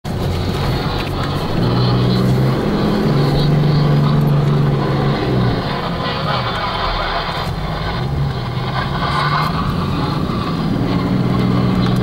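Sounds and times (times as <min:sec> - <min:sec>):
off-road vehicle engine under load: 0:00.0 - 0:12.0.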